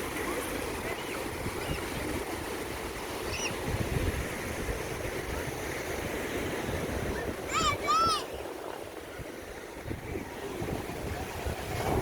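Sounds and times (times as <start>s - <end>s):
sea waves washing on beach: 0.0s - 12.0s
wind buffeting microphone: 0.0s - 12.0s.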